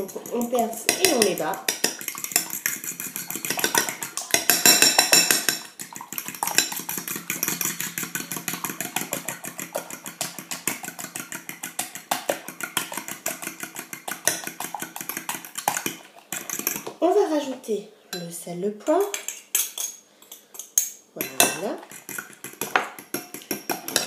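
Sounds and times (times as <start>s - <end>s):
fork beating eggs in glass bowl: 0.0s - 17.0s, 19.1s - 24.0s.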